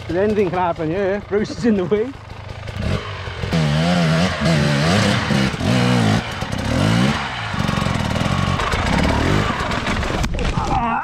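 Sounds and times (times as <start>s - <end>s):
dirt bike engine revving: 0.0s - 10.3s.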